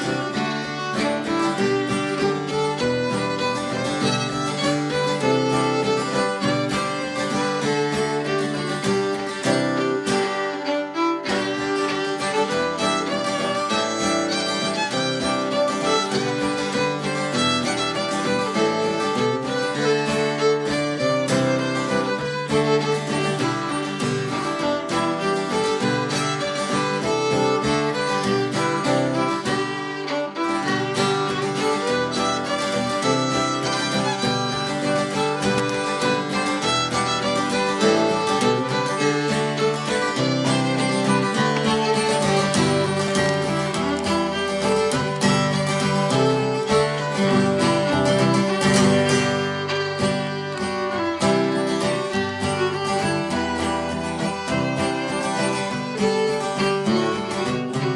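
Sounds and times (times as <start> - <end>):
acoustic guitar: 0.0 - 57.9
fiddle playing folk tune: 0.0 - 57.9.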